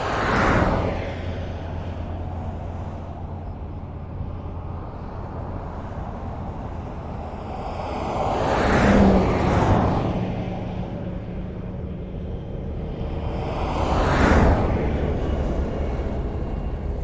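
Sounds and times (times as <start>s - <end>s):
vehicle passing close by: 0.0s - 11.8s, 12.8s - 17.0s
highway road noise rumble: 0.0s - 17.0s.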